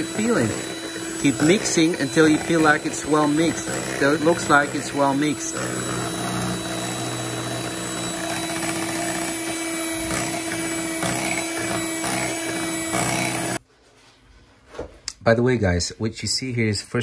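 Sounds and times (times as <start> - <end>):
electric hand mixer whirring: 0.0 - 13.6.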